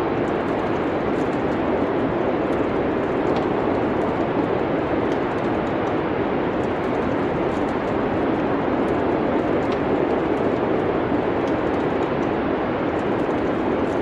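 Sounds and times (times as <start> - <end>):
faint wood fire crackles: 0.0 - 14.0.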